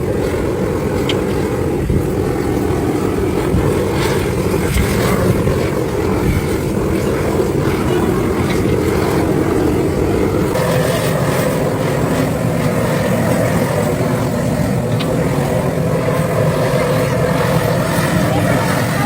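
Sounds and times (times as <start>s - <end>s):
motor running loudly: 0.0s - 19.0s.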